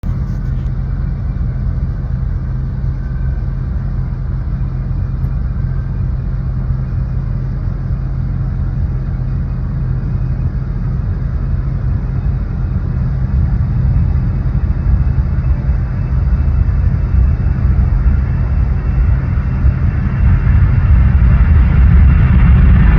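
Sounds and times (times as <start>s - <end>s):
aircraft engines rumbling: 0.0s - 22.9s.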